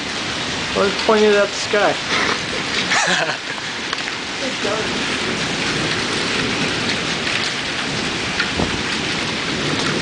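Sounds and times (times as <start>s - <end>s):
hailstones ticking: 0.0s - 10.0s
heavy rain hissing: 0.0s - 10.0s.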